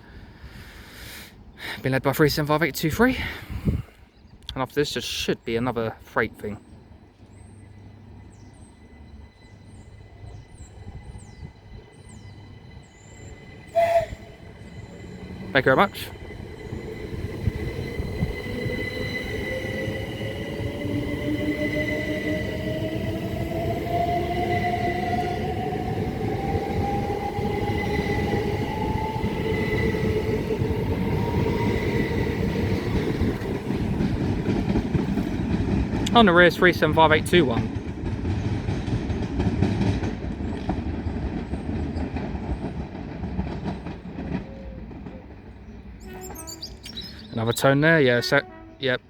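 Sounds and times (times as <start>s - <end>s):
electric train running past: 4.8s - 49.0s
wheels rumbling on track: 5.9s - 48.6s.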